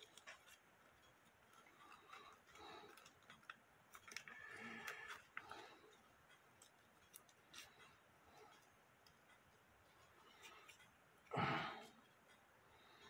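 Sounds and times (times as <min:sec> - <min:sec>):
tape clicking and rustling: 0:00.0 - 0:13.0.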